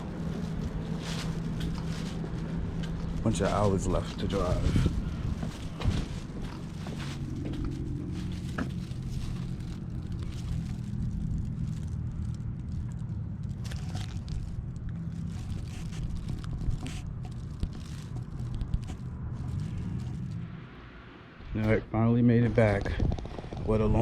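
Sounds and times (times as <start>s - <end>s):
truck engine and road noise hum: 0.0s - 24.0s.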